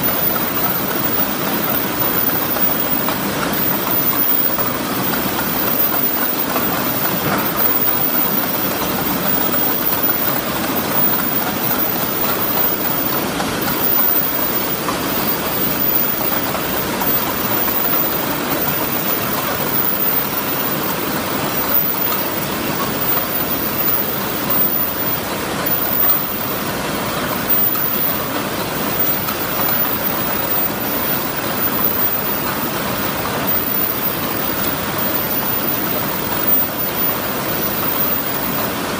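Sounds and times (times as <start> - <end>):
factory machines running: 0.0 - 38.9.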